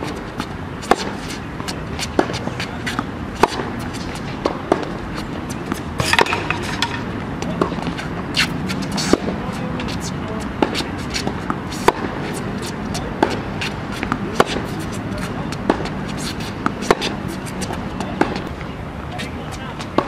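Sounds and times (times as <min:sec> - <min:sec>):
tennis ball hits: 0:00.0 - 0:09.9, 0:10.6 - 0:18.5
background noise: 0:00.0 - 0:20.0.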